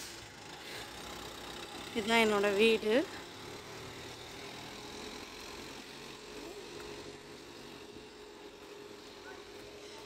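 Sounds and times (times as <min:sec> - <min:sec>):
low outdoor background noise: 0:00.0 - 0:10.0.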